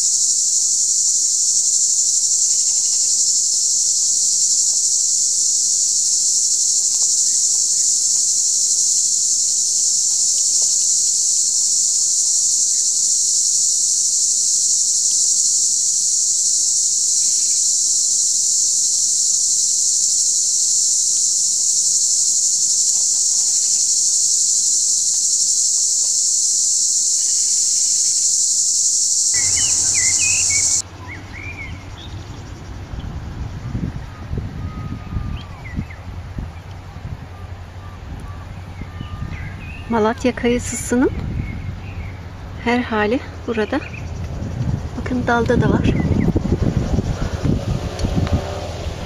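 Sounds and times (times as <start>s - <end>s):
short insect chirps: 0.0s - 36.0s, 40.6s - 49.0s
insects droning: 0.0s - 49.0s.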